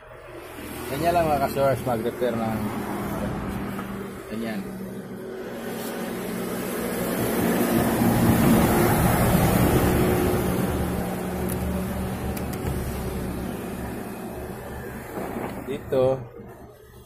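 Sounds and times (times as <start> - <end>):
motor vehicle passing: 0.0 - 16.9.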